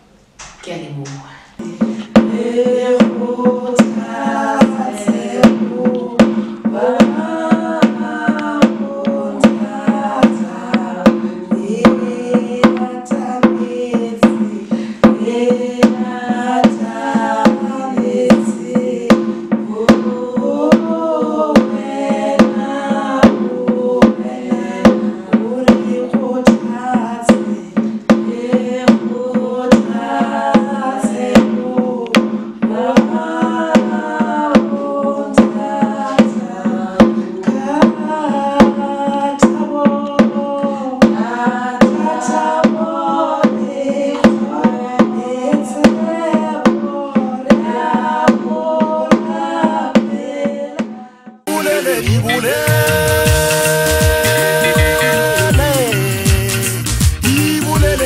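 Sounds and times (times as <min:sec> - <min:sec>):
woman singing: 0:01.3 - 0:56.5, 0:57.3 - 0:58.0
steady drum beat: 0:01.6 - 0:58.0.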